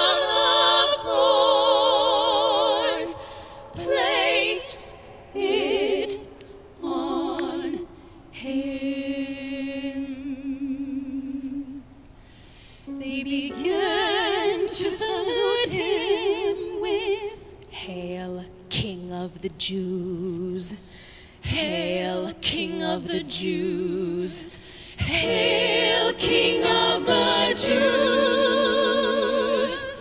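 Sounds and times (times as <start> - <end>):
vocal ensemble singing unaccompanied: 0.0 - 11.9, 12.9 - 18.4, 21.4 - 30.0.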